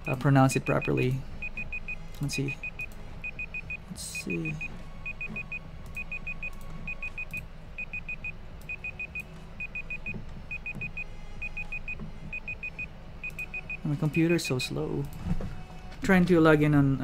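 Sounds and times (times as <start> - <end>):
electronic alarm beeping: 0.1 - 13.9.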